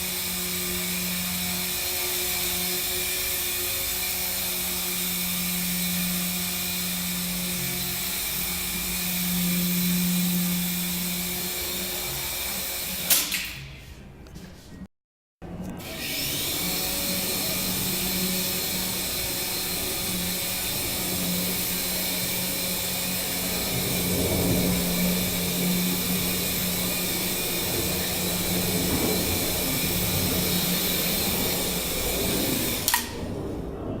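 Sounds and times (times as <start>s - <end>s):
toy helicopter rotor whirring: 0.0s - 13.3s, 15.8s - 33.2s.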